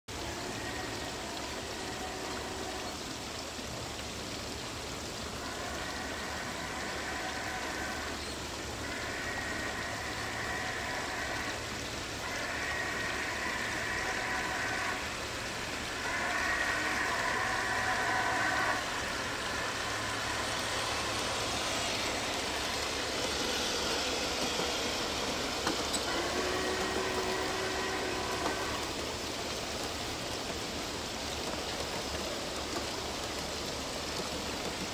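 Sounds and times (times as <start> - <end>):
running train rushing noise: 0.0 - 34.9
cars rolling on track hiss: 0.1 - 34.9.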